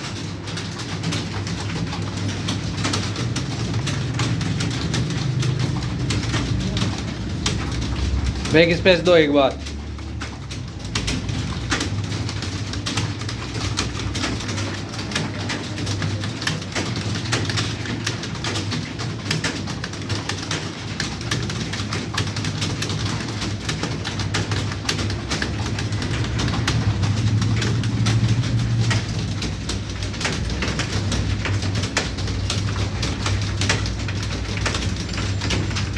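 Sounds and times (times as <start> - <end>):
typing on computer keyboard: 0.0 - 35.9.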